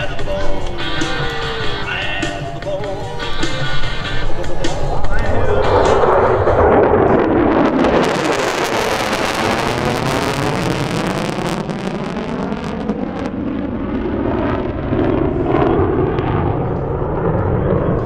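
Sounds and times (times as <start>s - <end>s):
jet roar with crackle: 3.3s - 18.0s.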